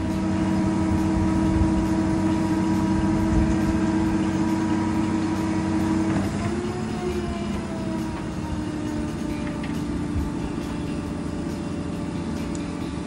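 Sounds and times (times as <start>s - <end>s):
boat hoist engine humming: 0.0s - 13.0s.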